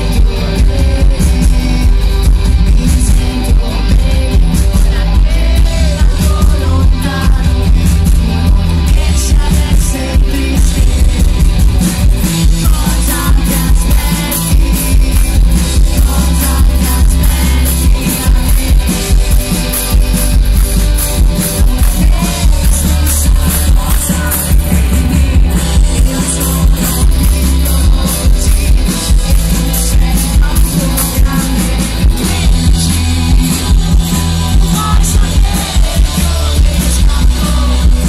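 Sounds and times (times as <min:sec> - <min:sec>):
bass guitar: 0:00.0 - 0:38.0
distorted electric guitars: 0:00.0 - 0:38.0
drum kit beat: 0:00.0 - 0:38.0.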